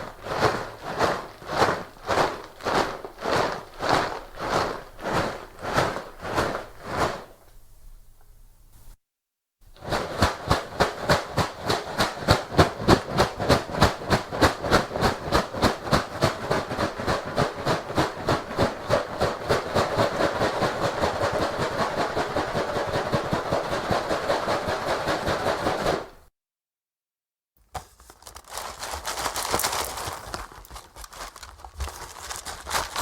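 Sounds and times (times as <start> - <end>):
cereal box shaken rattling: 0.0 - 7.4, 9.8 - 26.2, 27.7 - 33.0.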